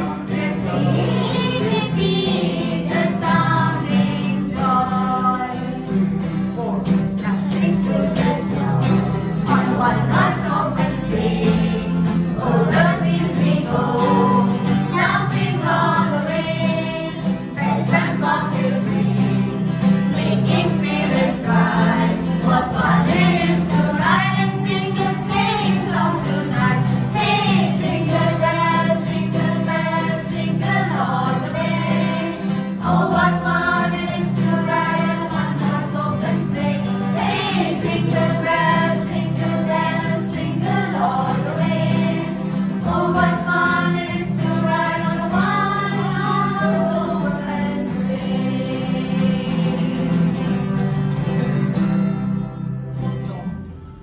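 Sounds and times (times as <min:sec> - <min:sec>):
children and women singing: 0:00.0 - 0:06.0, 0:07.2 - 0:50.5
strummed acoustic guitar: 0:00.0 - 0:54.0.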